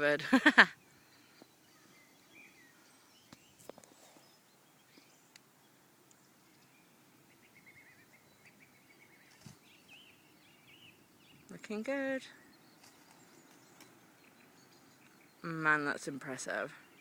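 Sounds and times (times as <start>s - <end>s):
distant birds chirping: 0.0s - 17.0s.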